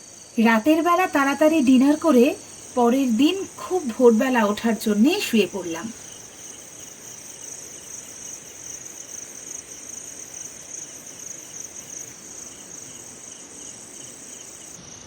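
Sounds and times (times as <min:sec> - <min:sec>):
crickets chirring: 0:00.0 - 0:15.0
pulsing insect call: 0:00.0 - 0:15.0.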